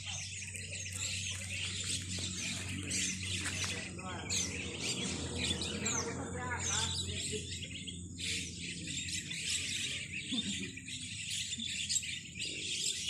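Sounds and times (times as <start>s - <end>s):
flock of starlings twittering: 0.0s - 13.0s.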